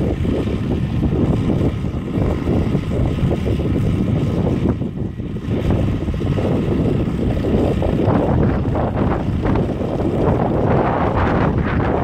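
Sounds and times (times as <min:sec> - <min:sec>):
tractor engine running: 0:00.0 - 0:12.0
wind buffeting microphone: 0:00.0 - 0:12.0.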